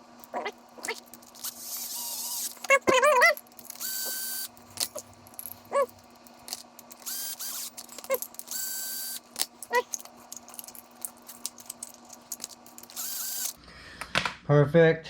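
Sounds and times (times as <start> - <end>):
connectors clicking and snapping: 0.2 - 13.6.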